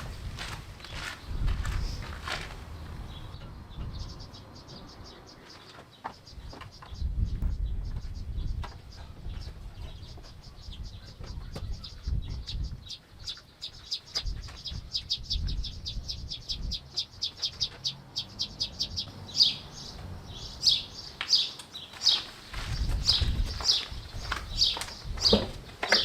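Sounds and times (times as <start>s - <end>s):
small bird trilling and chirping: 3.1s - 25.4s.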